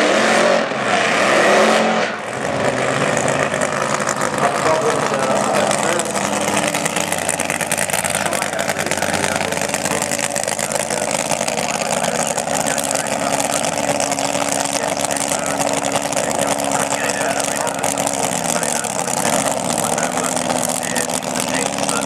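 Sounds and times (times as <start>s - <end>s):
racing car engine idling: 2.1s - 22.0s.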